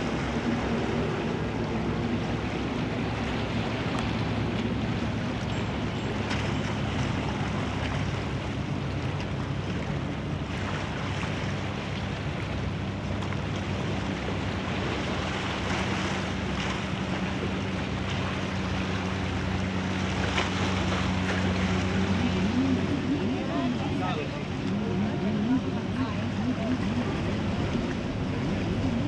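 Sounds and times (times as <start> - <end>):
boat engine humming: 0.0 - 29.0.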